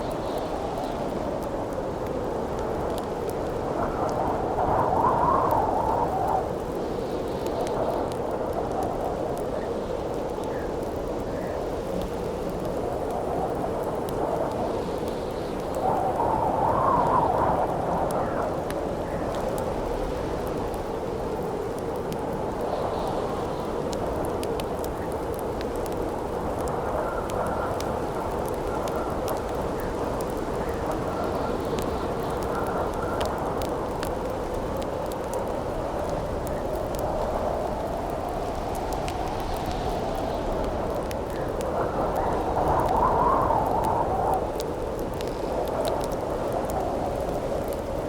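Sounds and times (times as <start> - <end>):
campfire crackling: 0.0 - 48.0
howling wind: 0.0 - 48.0.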